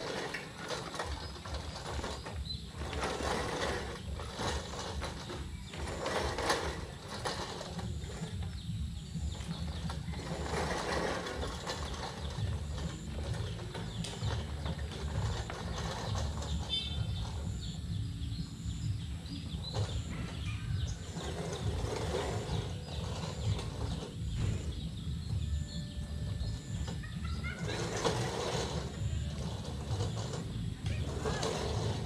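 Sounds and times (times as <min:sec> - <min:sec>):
reel mower whirring and clattering: 0:00.0 - 0:32.0.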